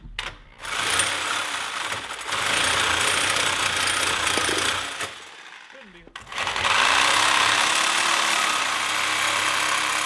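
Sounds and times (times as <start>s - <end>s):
reciprocating saw cutting steel: 0.7s - 10.0s.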